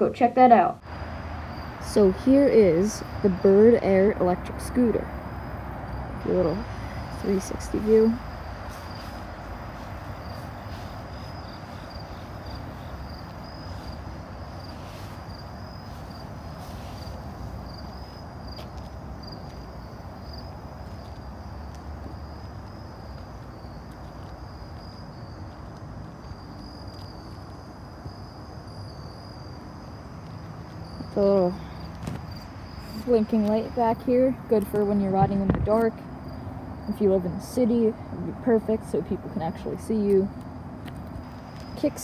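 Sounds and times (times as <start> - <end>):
low rumbling background noise: 0.0 - 42.0
insect trill: 0.8 - 35.0, 35.8 - 42.0.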